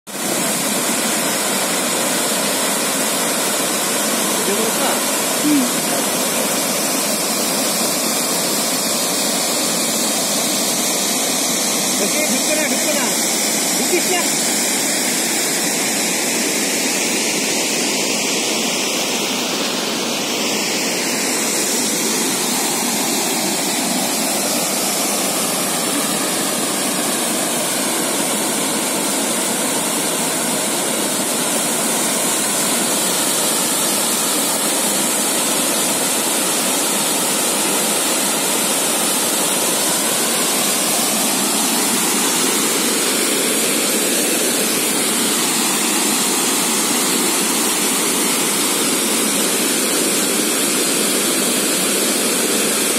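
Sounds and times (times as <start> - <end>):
waterfall rushing: 0.1 - 52.9.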